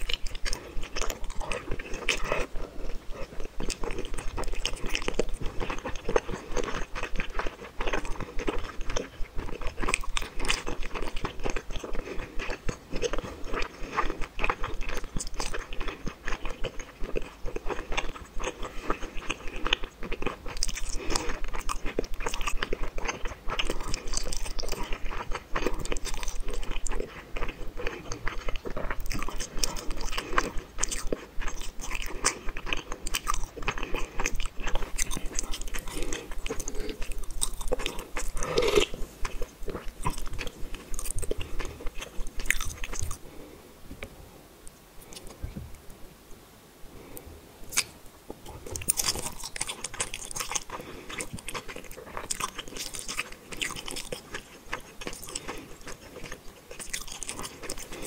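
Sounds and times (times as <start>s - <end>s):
biting and chewing food: 0.0s - 44.1s, 47.7s - 58.0s.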